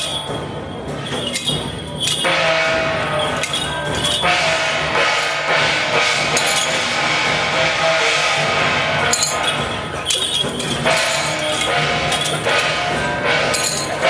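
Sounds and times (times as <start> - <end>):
drums and clashing cymbals: 0.0 - 14.0
procession music: 2.1 - 14.0.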